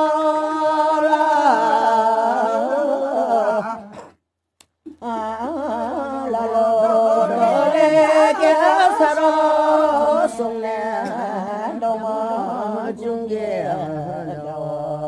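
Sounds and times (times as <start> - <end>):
person singing folk song: 0.0 - 4.1, 4.8 - 15.0.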